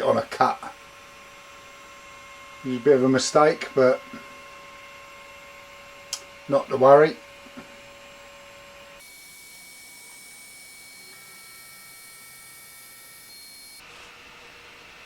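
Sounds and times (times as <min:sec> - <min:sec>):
laser engraving machine running: 0:00.0 - 0:15.0.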